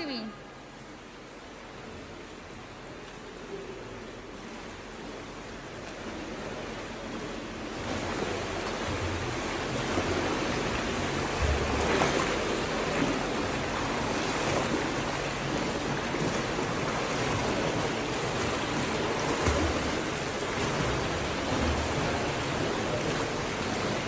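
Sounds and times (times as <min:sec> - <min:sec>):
water splashing in a pool: 0:00.0 - 0:24.0.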